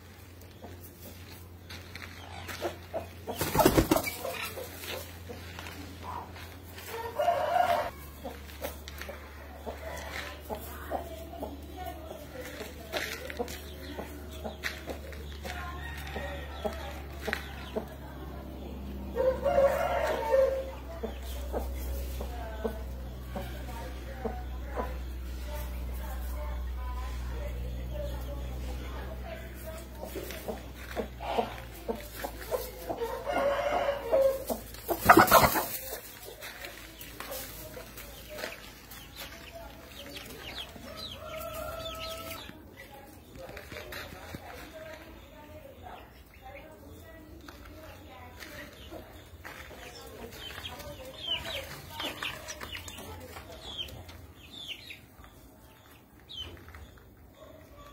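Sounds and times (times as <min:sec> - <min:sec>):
chicken clucking and calling: 0:00.0 - 0:57.9
chicks peeping: 0:00.0 - 0:57.9.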